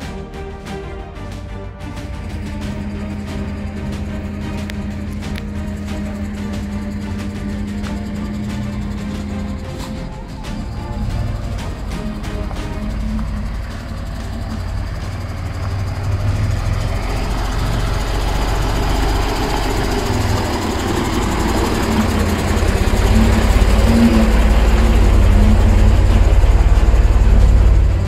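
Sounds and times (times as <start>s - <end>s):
diesel truck engine at low speed: 0.0s - 28.0s.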